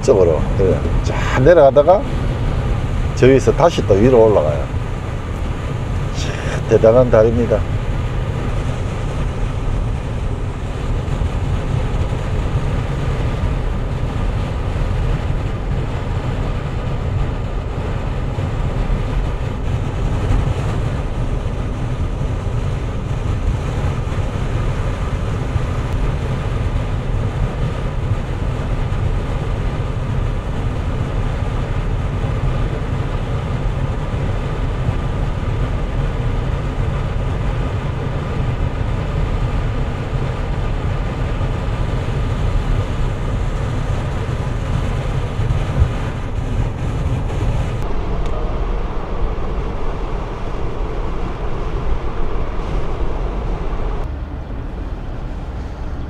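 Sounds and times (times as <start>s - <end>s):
road and engine rumble in car: 0.0s - 56.0s.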